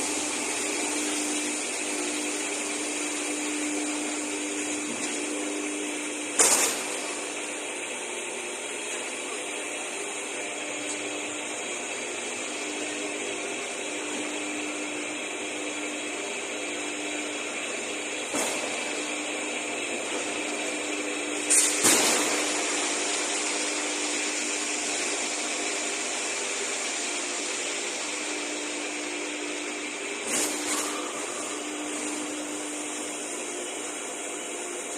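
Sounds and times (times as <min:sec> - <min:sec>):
machine hum and whine: 0:00.0 - 0:34.9.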